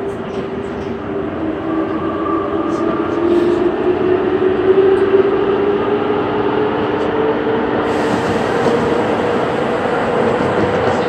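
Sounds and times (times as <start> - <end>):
electric train running rumble: 0.0 - 11.0.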